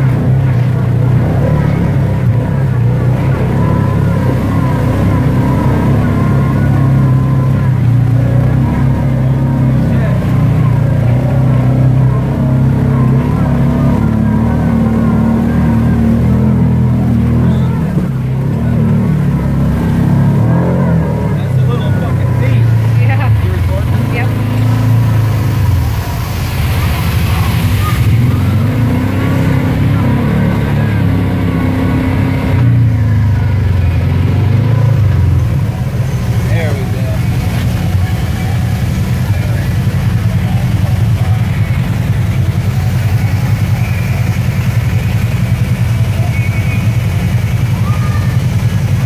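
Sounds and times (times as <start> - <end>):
engine running under load: 0.0 - 49.0.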